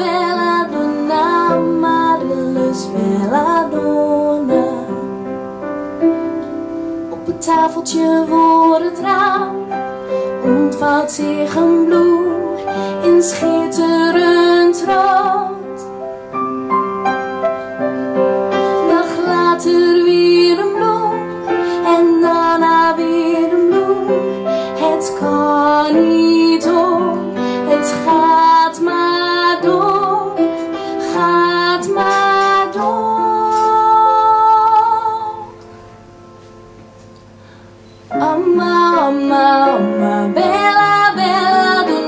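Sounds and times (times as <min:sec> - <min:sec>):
woman singing slow song: 0:00.0 - 0:05.4, 0:07.1 - 0:16.0, 0:18.6 - 0:35.8, 0:38.0 - 0:42.0
upright piano: 0:00.0 - 0:42.0.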